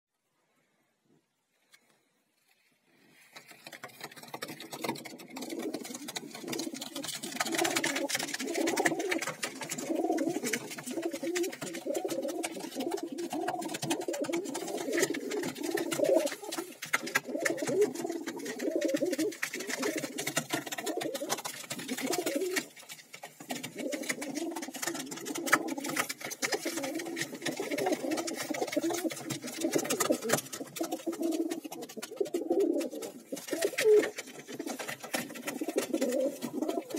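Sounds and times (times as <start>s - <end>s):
pigeons cooing: 3.4s - 36.9s.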